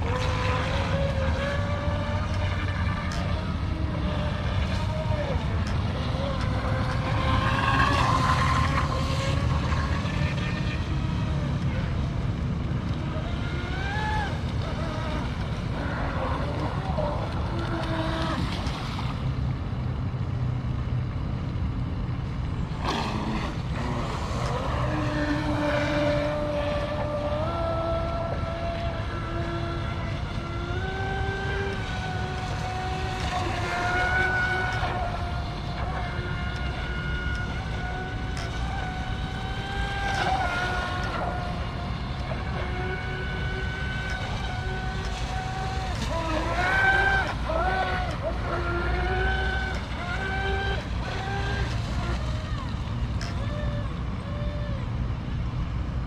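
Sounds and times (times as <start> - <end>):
rc boat electric motor whining: 0.0 - 56.0
water noise: 0.0 - 56.0
wind: 0.0 - 56.0.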